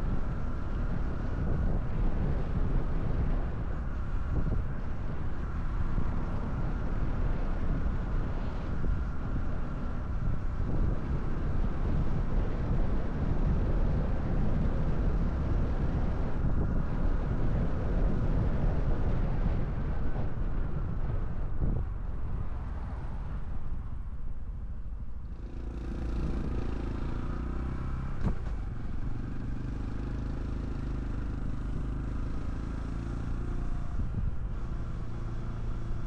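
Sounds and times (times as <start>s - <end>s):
motorcycle engine running: 0.0s - 22.1s, 25.2s - 36.0s
wind buffeting microphone: 0.0s - 36.0s.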